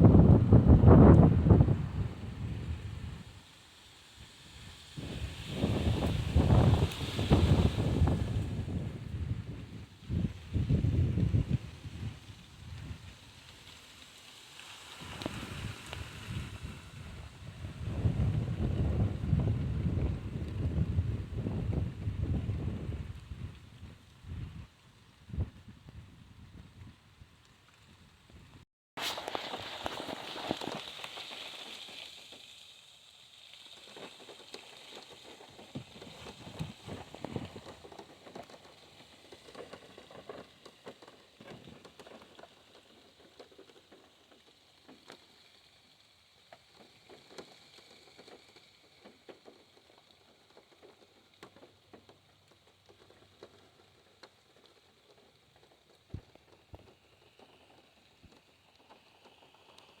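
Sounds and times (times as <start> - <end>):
rain on a car roof: 0.0 - 28.2, 29.0 - 60.0.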